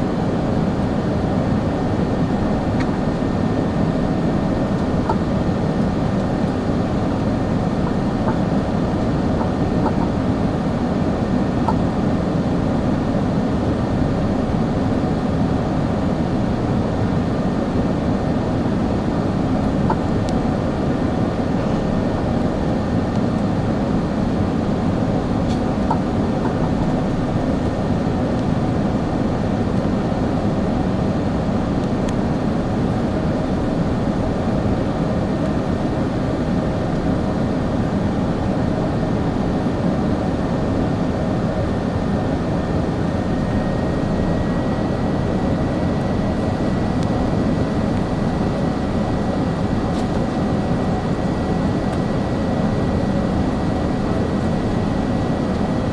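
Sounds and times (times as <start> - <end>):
airplane cabin engine rumble: 0.0 - 55.9
faint high whine: 0.0 - 55.9.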